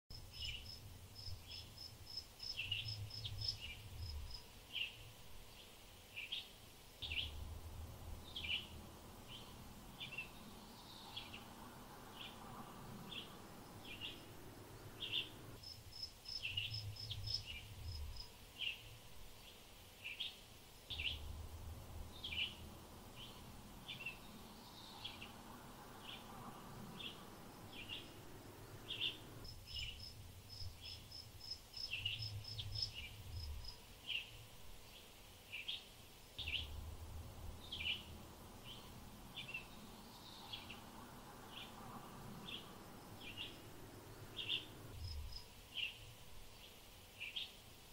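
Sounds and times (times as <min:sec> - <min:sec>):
faint low rumble: 0:00.1 - 0:05.6, 0:07.0 - 0:18.3, 0:20.9 - 0:33.8, 0:36.4 - 0:45.5
small birds chirping: 0:00.1 - 0:47.9.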